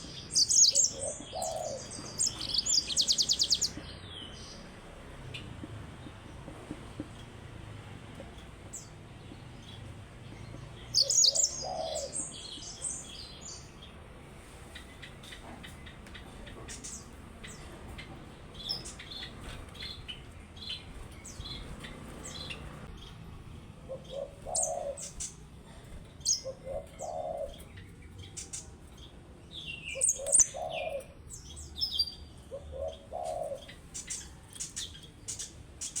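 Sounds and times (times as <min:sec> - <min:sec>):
canary chirps: 0:00.0 - 0:05.5, 0:08.8 - 0:14.0, 0:14.7 - 0:25.6, 0:26.2 - 0:36.0.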